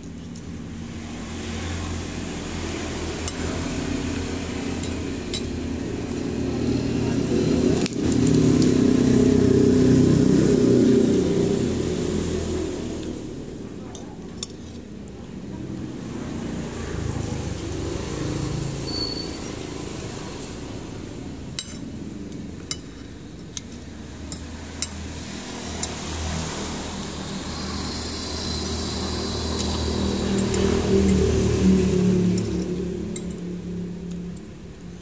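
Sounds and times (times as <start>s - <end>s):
passing road traffic: 0.0s - 35.0s.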